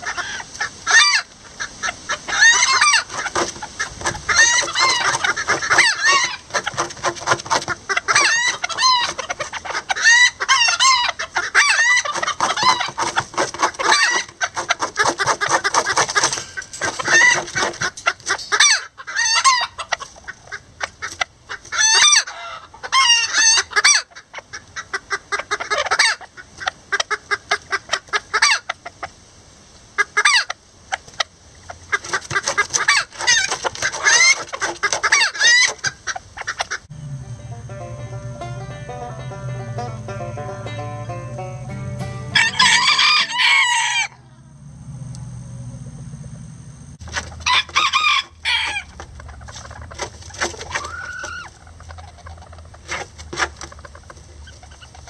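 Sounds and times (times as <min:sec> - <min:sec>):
chickens clucking: 0:00.0 - 0:29.2, 0:29.9 - 0:44.6, 0:47.0 - 0:55.0.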